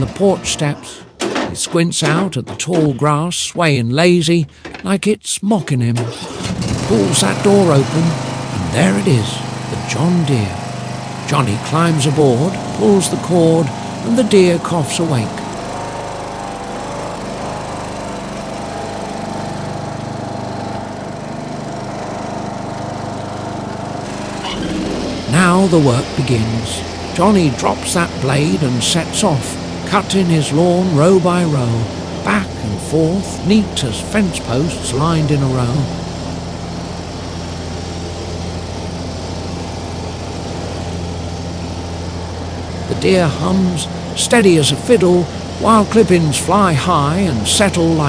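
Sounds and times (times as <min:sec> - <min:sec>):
lawn tractor engine running: 0:00.0 - 0:48.0.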